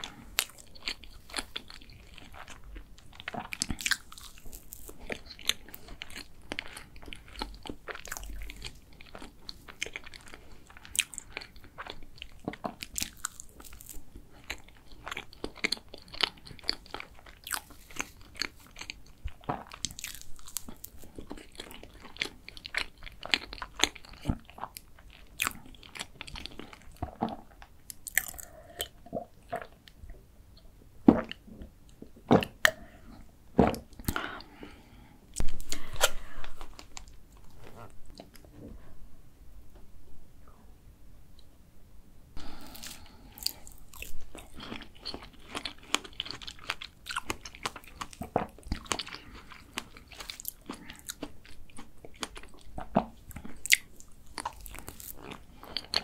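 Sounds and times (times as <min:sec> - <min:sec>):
person chewing cake: 0:00.0 - 0:38.6, 0:42.4 - 0:56.0.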